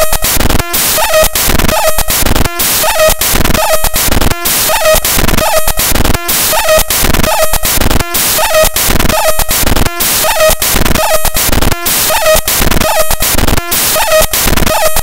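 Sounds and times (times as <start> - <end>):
crackling hissing electronic noise: 0.0 - 15.0.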